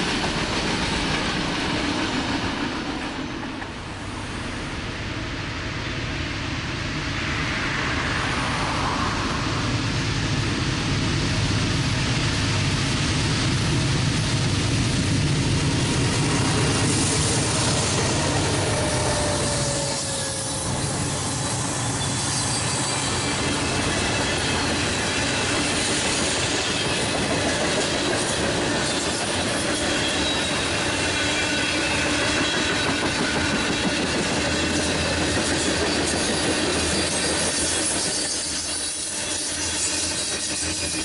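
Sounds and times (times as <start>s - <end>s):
diesel locomotive engine: 0.0s - 41.0s
train wheels rumbling on rail: 0.0s - 41.0s.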